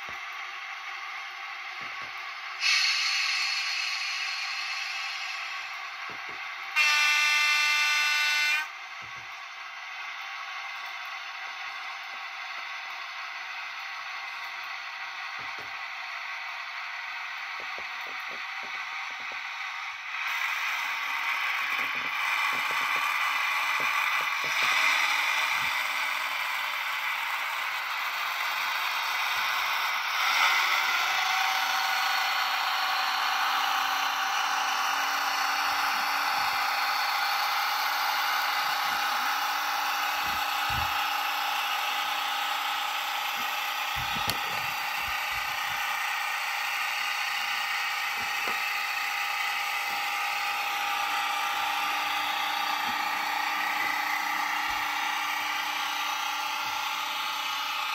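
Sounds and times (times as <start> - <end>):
model train whirring and clattering: 0.0 - 57.9.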